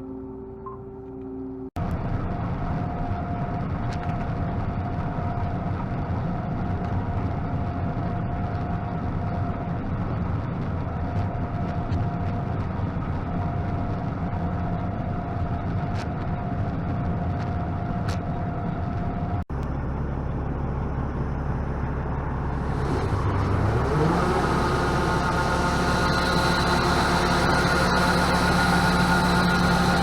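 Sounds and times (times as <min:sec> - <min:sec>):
steady whine: 0:00.0 - 0:30.0
farm machinery engine running: 0:01.8 - 0:30.0.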